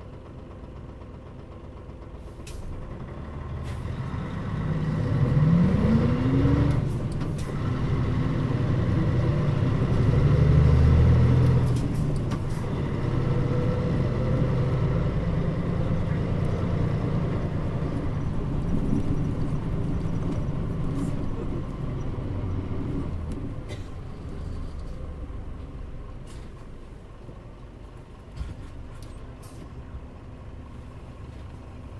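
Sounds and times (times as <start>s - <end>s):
bus diesel engine pulling hard: 0.0s - 31.9s.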